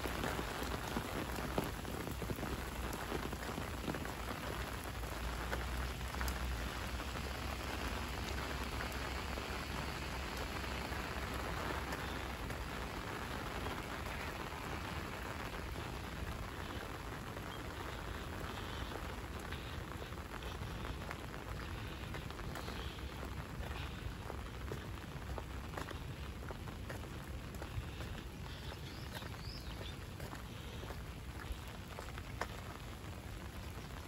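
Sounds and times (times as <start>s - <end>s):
light rain falling: 0.0s - 34.0s.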